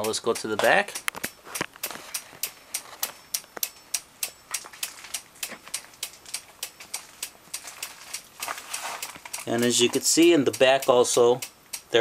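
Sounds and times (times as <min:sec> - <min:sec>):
flasher relay clicking: 0:00.0 - 0:12.0.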